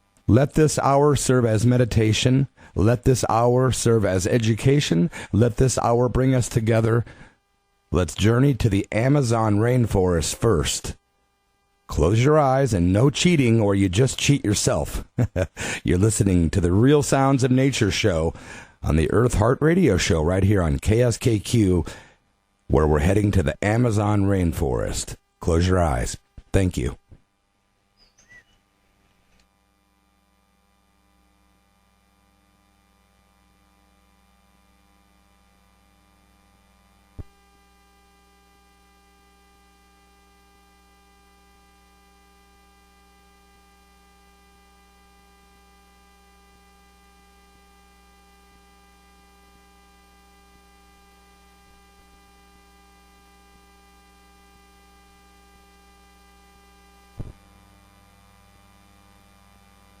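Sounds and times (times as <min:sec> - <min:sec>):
electrical hum: 0:00.0 - 1:00.0.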